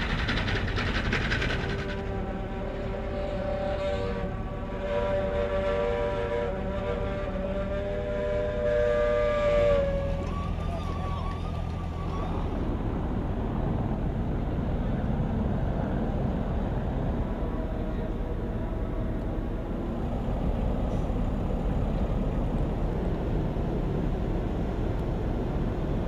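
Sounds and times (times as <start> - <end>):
engines rumbling: 0.0 - 26.0
wind: 0.0 - 26.0.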